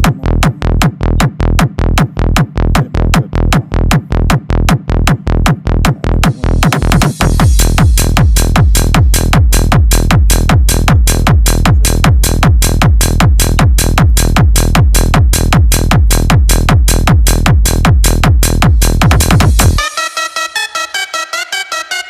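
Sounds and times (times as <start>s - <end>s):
electronic dance music: 0.0s - 22.0s.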